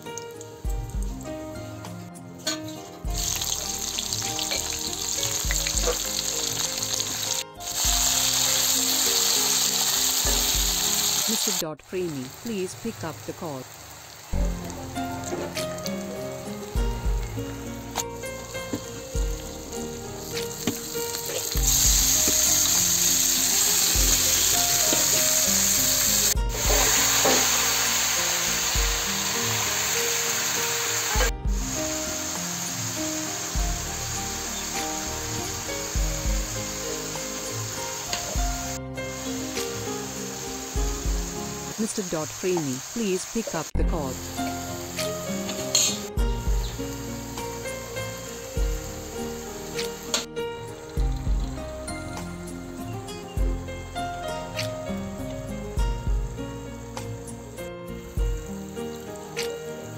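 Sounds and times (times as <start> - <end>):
background music: 0.0 - 13.6, 14.3 - 59.9
onions sizzling in hot oil: 2.4 - 53.4, 54.4 - 59.9.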